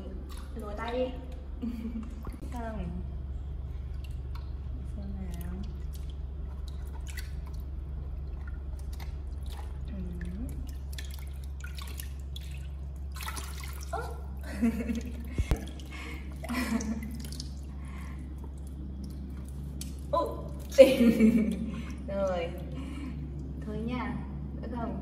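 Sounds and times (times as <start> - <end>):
water splashing in a basin: 0.0 - 2.8, 3.7 - 23.7
steady low hum: 0.0 - 25.0.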